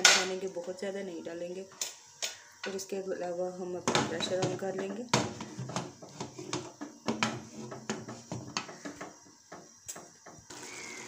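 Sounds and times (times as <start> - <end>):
pressure cooker hiss: 0.0 - 11.0.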